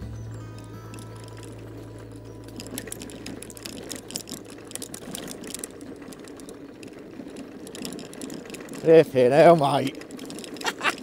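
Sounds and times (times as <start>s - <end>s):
electric scooter motor hum: 0.0s - 11.0s
scooter rattling over bumps: 0.0s - 11.0s
tyres crackling over gravel: 0.2s - 11.0s.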